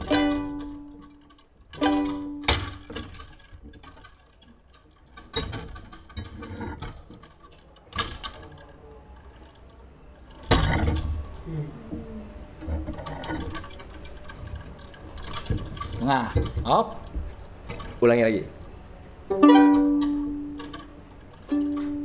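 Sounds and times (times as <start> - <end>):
crickets chirring: 0.0 - 22.0
knocks and handling noises: 0.0 - 22.0.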